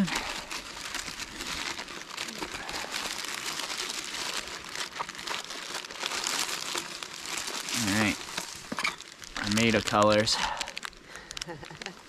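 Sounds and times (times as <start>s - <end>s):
plastic wrapping crackling: 0.0s - 12.0s.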